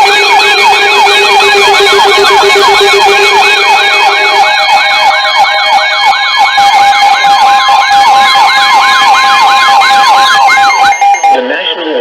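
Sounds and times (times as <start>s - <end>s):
electronic siren yelping: 0.0s - 11.4s.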